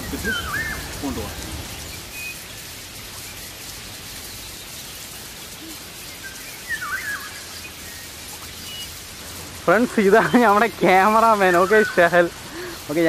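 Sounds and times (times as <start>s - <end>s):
bird call: 0.0s - 9.1s, 9.8s - 13.0s
forest background hiss: 0.0s - 13.0s.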